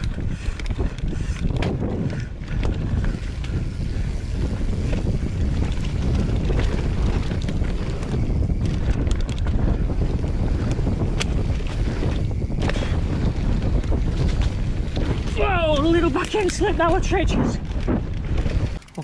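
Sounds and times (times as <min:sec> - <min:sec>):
wind buffeting microphone: 0:00.0 - 0:18.8
bike clicks and rattles: 0:00.0 - 0:19.0
bike tyres rolling on dirt: 0:00.0 - 0:19.0.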